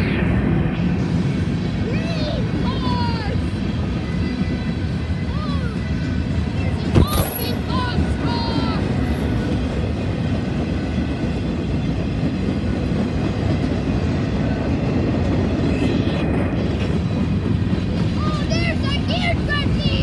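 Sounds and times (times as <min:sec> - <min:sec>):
train wheels on rails: 0:00.3 - 0:20.0.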